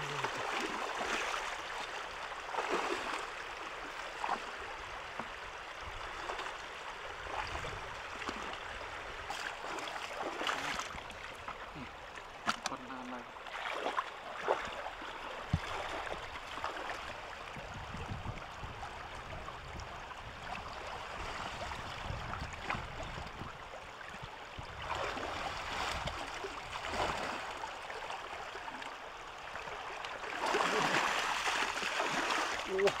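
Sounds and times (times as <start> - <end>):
muddy water sloshing and splashing: 0.0 - 33.0.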